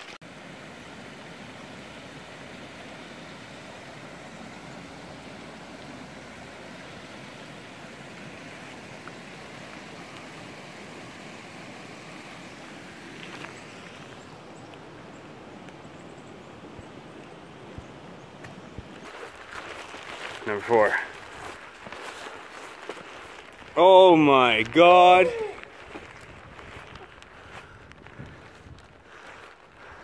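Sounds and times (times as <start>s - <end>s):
creek rushing over rocks: 0.0s - 27.3s.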